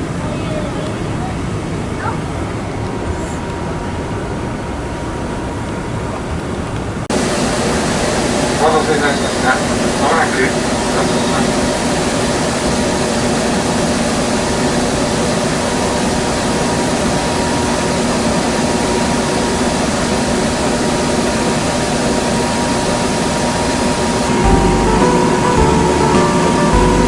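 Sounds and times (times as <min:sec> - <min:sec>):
electric train running noise: 0:00.0 - 0:27.0.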